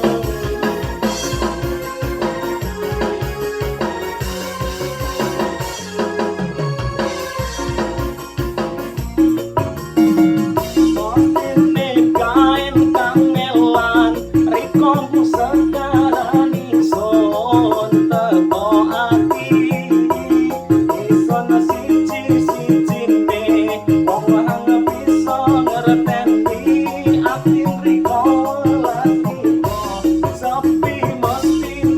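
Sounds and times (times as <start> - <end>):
keyboard dance music: 0.0 - 31.9.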